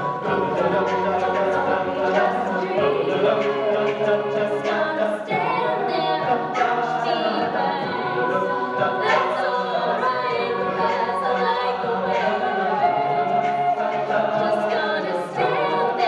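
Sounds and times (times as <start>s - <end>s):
a cappella group singing: 0.0s - 16.0s.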